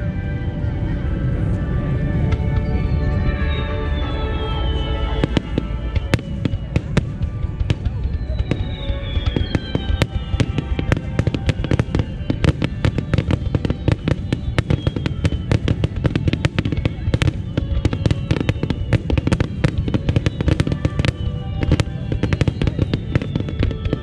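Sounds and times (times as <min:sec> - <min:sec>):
fireworks bangs and crackles: 0:01.8 - 0:24.0
falling whistles of fireworks: 0:02.2 - 0:24.0.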